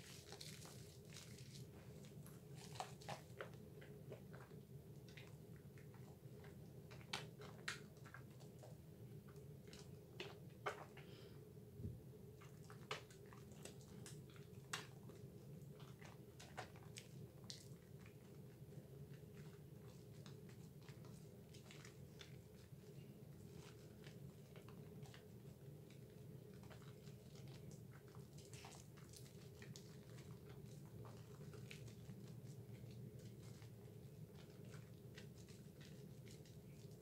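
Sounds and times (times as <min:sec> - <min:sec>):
soap lather squishing: 0:00.0 - 0:37.0.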